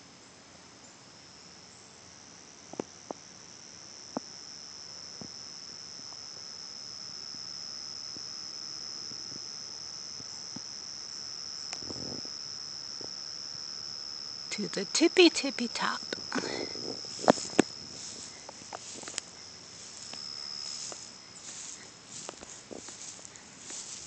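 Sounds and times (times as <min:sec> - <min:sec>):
insects droning in trees: 0:00.0 - 0:24.0.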